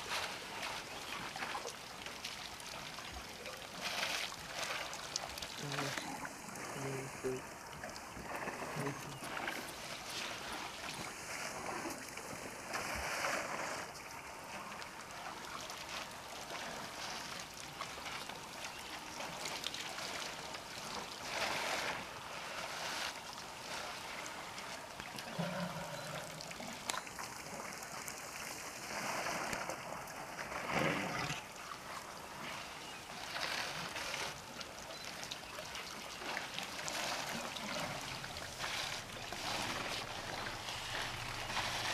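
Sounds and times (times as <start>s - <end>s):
water splashing and trickling: 0.0s - 41.9s.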